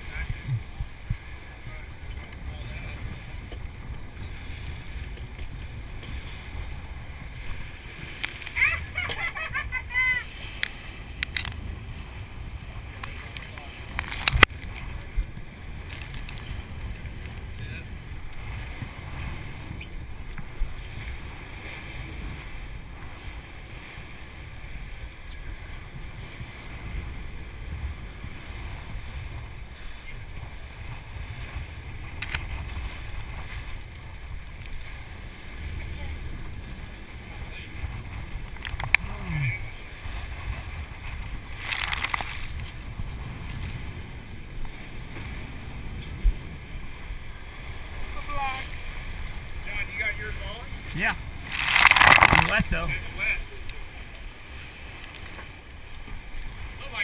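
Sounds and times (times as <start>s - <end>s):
boat engine drone: 0.0s - 57.0s
wake washing: 0.0s - 57.0s
wind on microphone: 0.0s - 57.0s.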